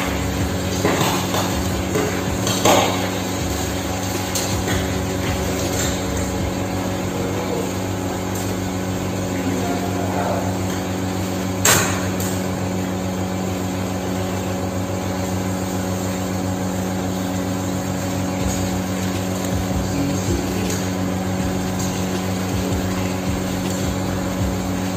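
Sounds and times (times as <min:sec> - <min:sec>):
steady mechanical hum: 0:00.0 - 0:24.9.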